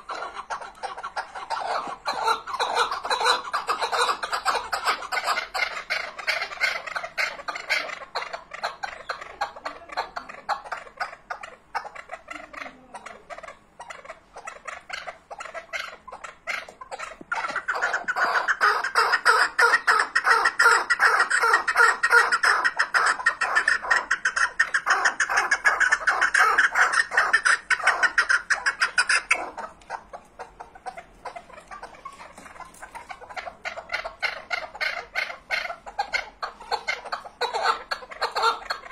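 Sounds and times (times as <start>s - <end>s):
partridge rapid clucking call: 0.0s - 38.9s.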